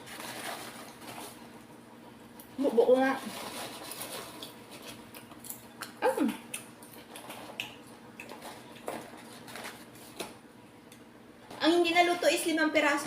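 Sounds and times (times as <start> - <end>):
popcorn being handled and eaten: 0.0 - 11.1.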